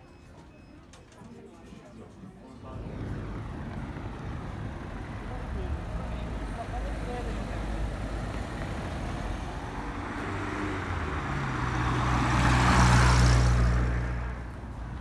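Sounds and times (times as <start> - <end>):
vehicle passing by: 2.7 - 15.0.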